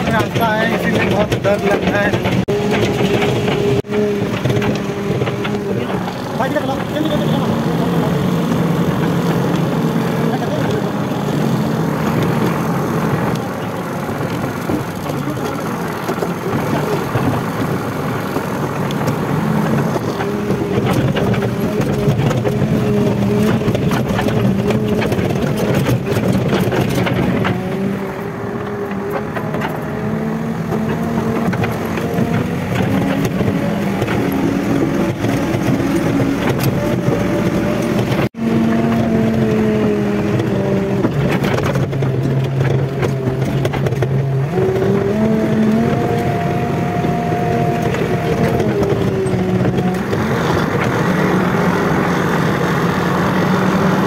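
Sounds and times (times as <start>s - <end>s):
rattles and knocks: 0.0s - 39.6s, 40.2s - 51.2s
diesel engine running: 0.0s - 54.0s.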